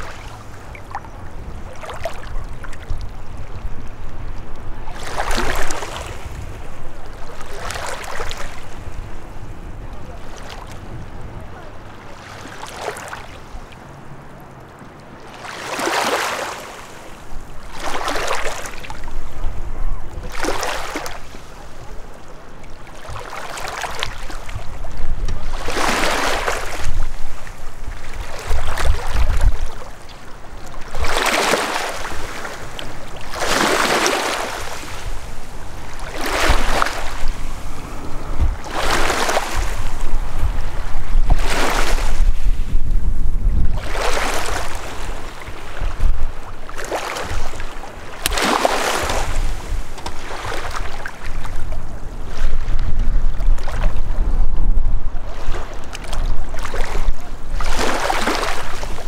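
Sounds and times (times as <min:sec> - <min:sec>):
small waves lapping on shore: 0:00.0 - 0:59.0
wind rumbling on microphone: 0:00.0 - 0:59.0.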